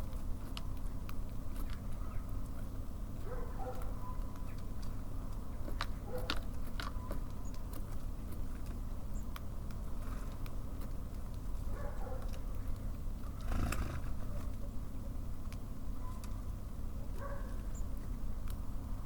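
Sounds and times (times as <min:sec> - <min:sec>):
birds pecking seed: 0:00.0 - 0:19.0
low city rumble: 0:00.0 - 0:19.0.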